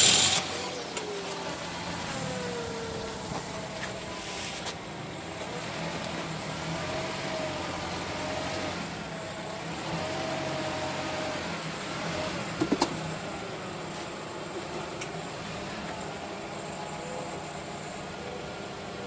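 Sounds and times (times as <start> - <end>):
car engine whining: 0.0 - 19.0.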